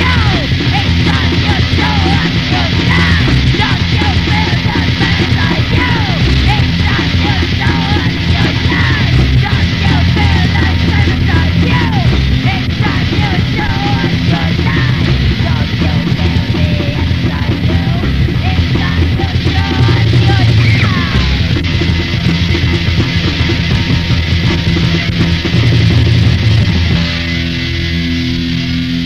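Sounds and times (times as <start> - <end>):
punk rock music: 0.0 - 29.0.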